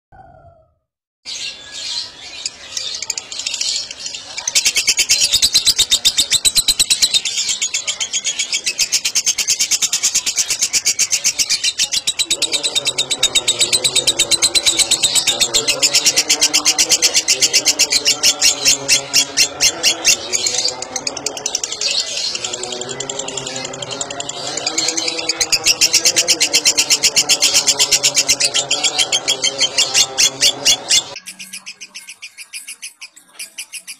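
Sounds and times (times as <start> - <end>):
bird singing fast high chirps: 1.4 - 33.9.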